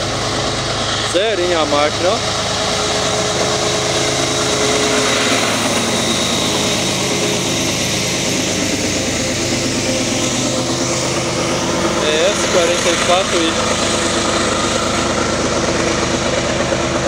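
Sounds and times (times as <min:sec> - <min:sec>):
diesel locomotive engine: 0:00.0 - 0:17.0
steady high whine: 0:00.0 - 0:17.0.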